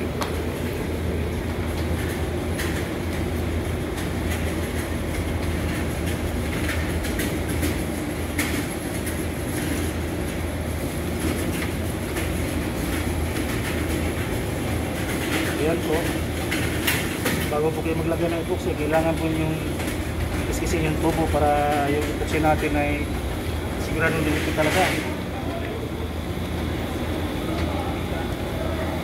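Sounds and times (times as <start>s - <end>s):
low machinery drone: 0.0s - 29.0s.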